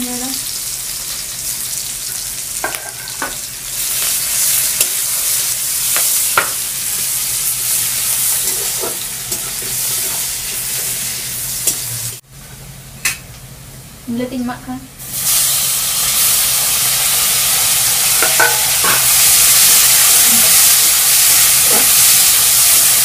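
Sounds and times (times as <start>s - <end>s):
onions sizzling in oil: 0.0s - 12.2s, 15.0s - 23.0s.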